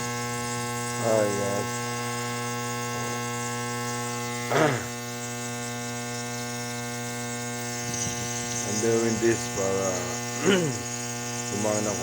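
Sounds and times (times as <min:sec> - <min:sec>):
nebulizer compressor humming: 0:00.0 - 0:12.0.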